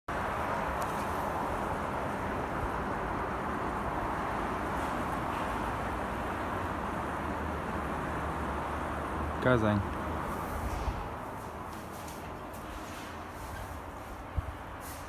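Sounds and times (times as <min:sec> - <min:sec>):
road traffic rumble: 0:00.1 - 0:15.0.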